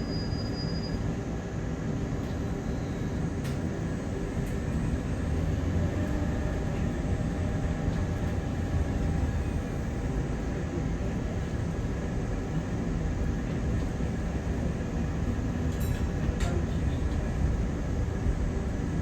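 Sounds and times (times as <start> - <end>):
bus engine rumble: 0.0 - 19.0
faint steady whine: 0.0 - 19.0.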